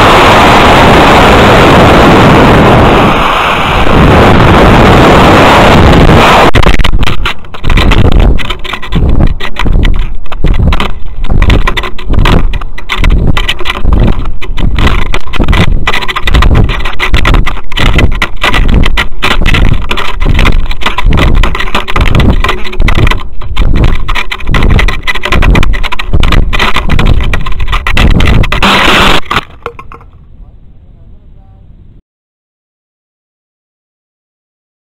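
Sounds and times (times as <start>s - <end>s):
wind buffeting microphone: 0.0s - 31.1s.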